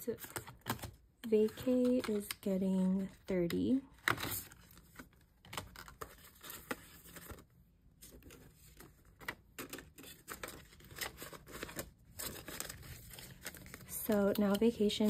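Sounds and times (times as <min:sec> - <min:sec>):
banknotes and plastic rustling: 0:00.0 - 0:15.0.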